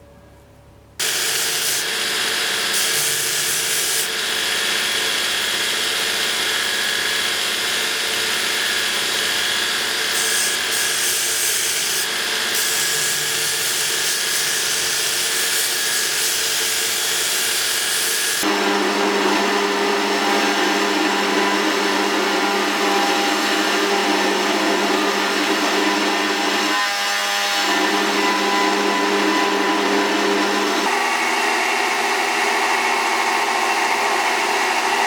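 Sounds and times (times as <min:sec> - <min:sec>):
electric grinder grinding steel: 0:01.0 - 0:35.0.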